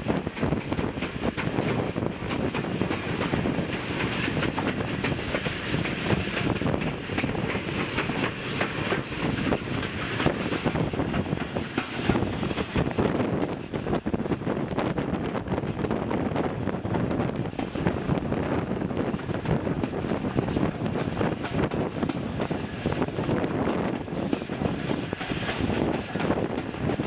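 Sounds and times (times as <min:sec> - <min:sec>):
train wheels rumbling on track: 0:00.0 - 0:27.0
wind buffeting microphone: 0:00.0 - 0:27.0.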